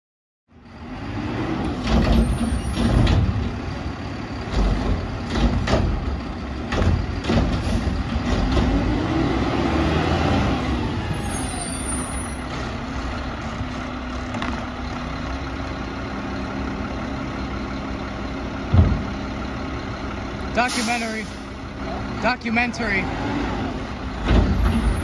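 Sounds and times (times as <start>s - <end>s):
garbage truck engine revving: 0.6s - 22.2s, 22.9s - 25.0s.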